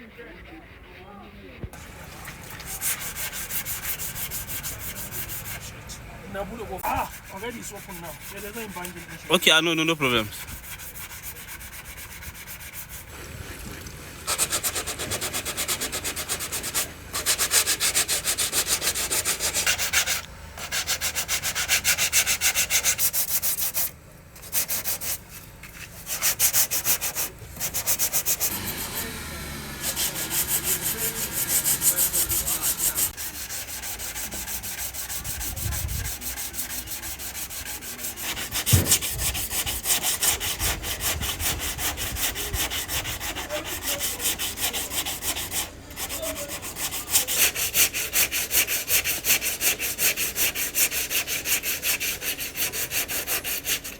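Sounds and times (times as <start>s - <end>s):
hand sanding strokes: 0.0s - 53.9s.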